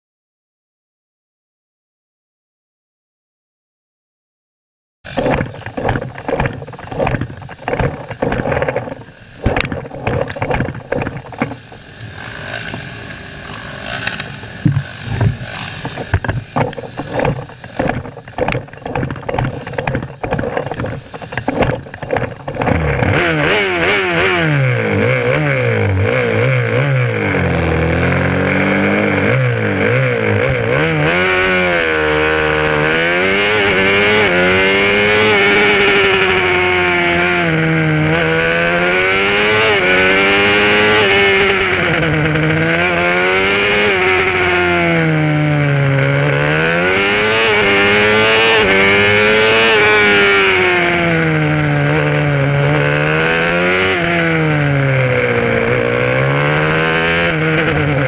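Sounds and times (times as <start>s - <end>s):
motorcycle accelerating away: 5.1s - 58.0s
motorcycle engines revving: 5.1s - 58.0s.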